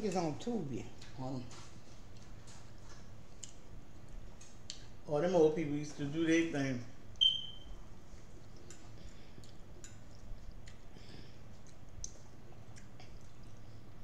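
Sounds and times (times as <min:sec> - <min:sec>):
soft chewing and lip-smacking: 0:00.1 - 0:05.0, 0:07.0 - 0:14.0.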